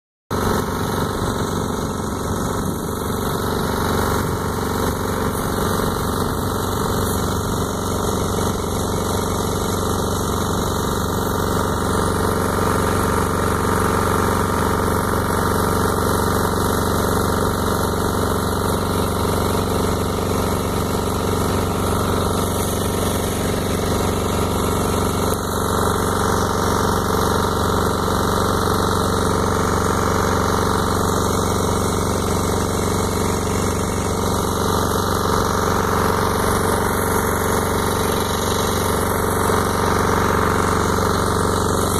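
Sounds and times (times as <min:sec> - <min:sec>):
engine idling: 0:00.3 - 0:41.9.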